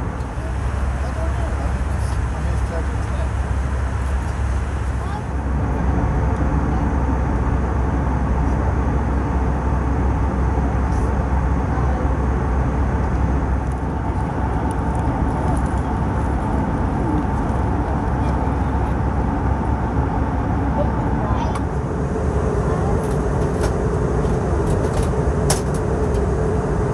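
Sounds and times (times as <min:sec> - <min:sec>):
airflow over fuselage: 0:00.0 - 0:26.9
airplane cabin engine drone: 0:00.0 - 0:26.9.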